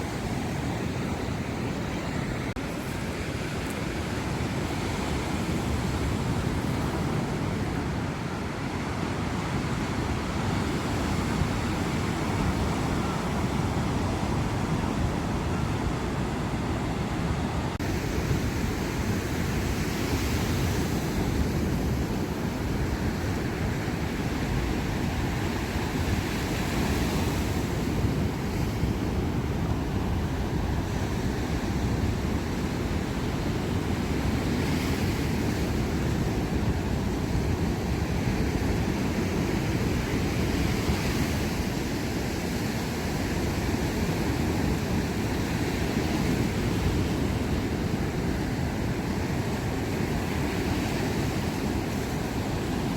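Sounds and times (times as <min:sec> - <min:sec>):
sea waves breaking on shore: 0:00.0 - 0:52.9
wind rumbling on microphone: 0:00.0 - 0:52.9.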